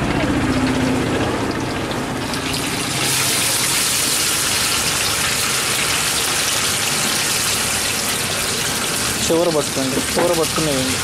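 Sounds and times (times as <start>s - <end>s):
oil sizzling in a wok: 1.2s - 11.0s.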